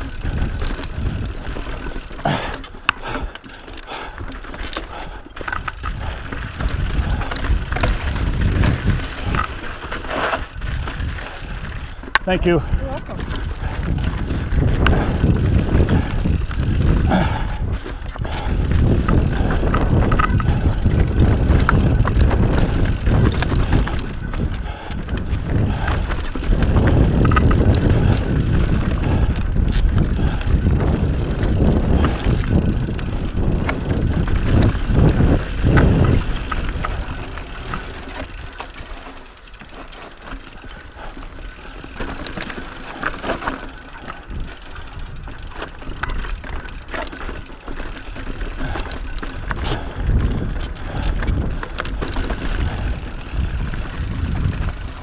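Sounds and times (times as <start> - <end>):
mountain bike rattling over rocks: 0.0 - 55.0.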